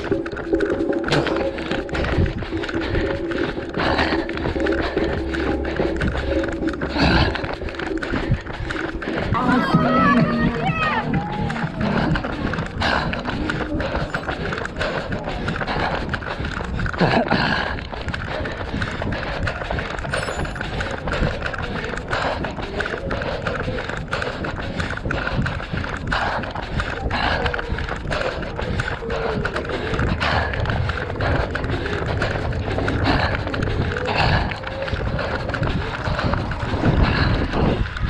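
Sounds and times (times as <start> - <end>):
wind rumble: 0.0 - 38.0.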